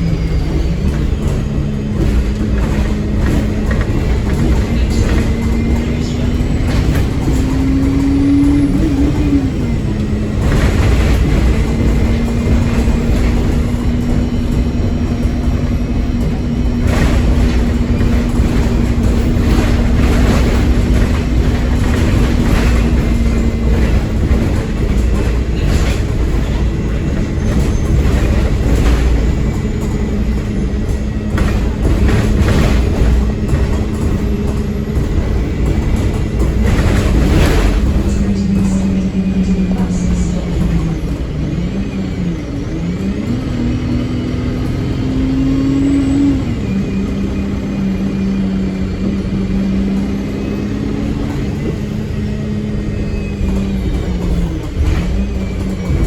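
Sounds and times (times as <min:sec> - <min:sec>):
bodywork knocks and rattles: 0:00.0 - 0:39.0, 0:48.4 - 0:56.0
bus diesel engine running: 0:00.0 - 0:56.0.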